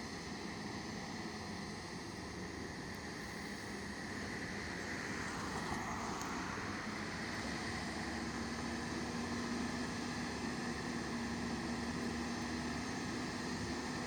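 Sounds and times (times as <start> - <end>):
fire engine running: 0.0 - 14.0.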